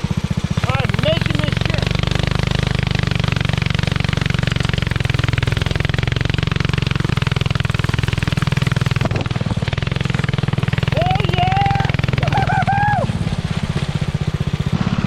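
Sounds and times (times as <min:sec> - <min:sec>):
small engine running under load: 0:00.0 - 0:15.0.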